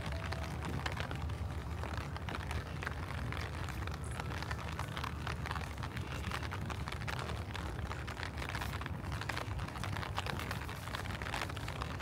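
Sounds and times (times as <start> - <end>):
low rumble: 0.0 - 12.0
rain patter: 0.0 - 12.0.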